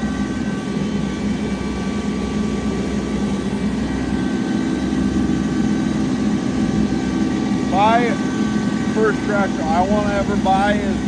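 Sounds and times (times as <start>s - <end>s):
rotary cutter whine: 0.0s - 11.0s
tractor engine running: 0.0s - 11.0s.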